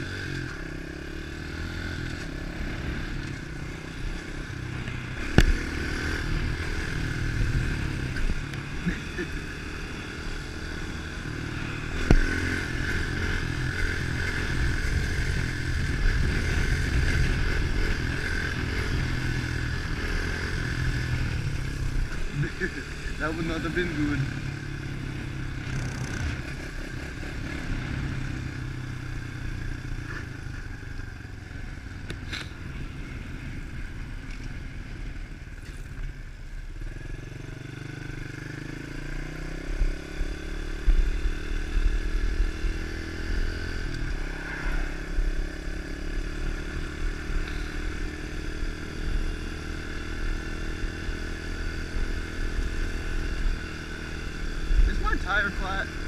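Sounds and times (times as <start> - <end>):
pitbike engine running: 1.4 - 56.0.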